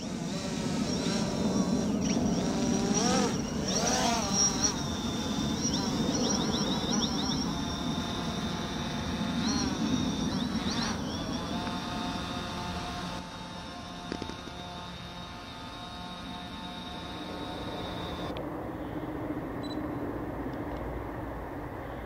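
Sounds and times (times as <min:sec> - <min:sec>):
quadcopter propellers buzzing: 0:00.0 - 0:20.7.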